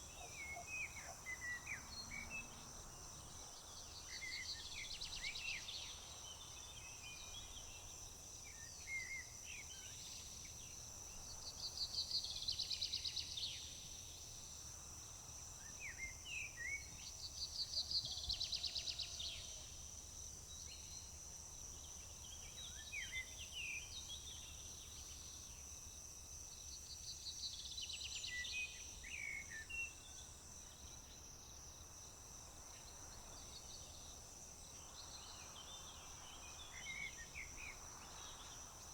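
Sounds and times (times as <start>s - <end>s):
insects droning: 0.0s - 18.3s, 18.9s - 38.9s.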